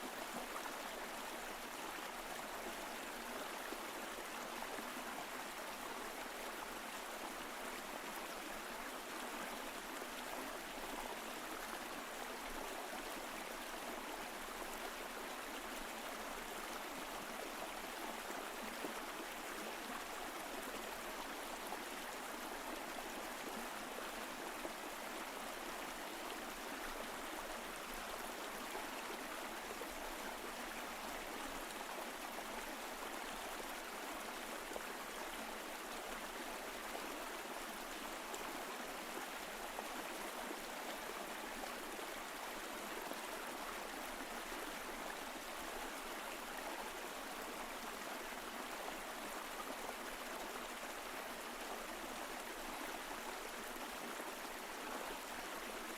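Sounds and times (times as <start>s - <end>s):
stream flowing over rocks: 0.0s - 55.9s.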